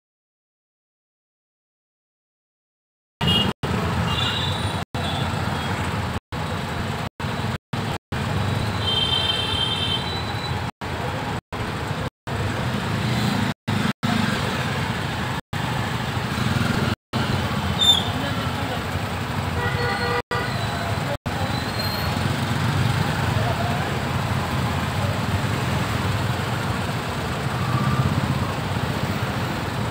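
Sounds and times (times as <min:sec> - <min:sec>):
traffic engines rumbling: 0:03.2 - 0:29.9.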